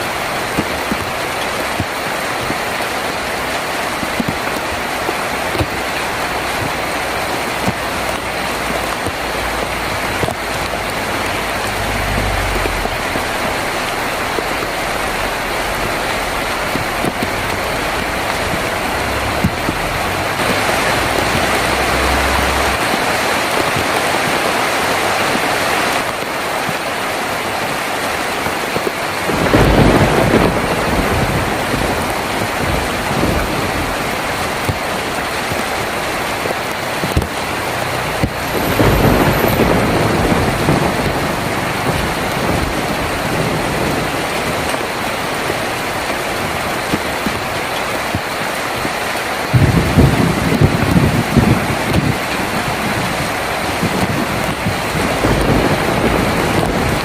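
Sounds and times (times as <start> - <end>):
heavy rain on a tin roof: 0.0 - 57.0
thunder rumbling: 0.0 - 57.0.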